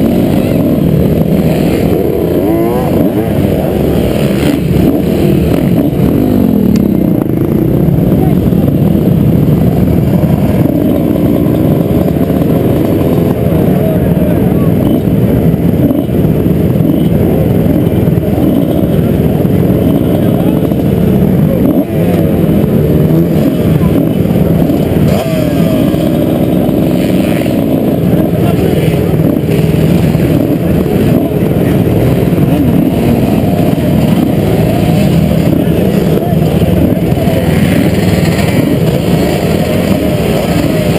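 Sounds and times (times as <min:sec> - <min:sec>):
motocross bike engines idling: 0:00.0 - 0:40.9.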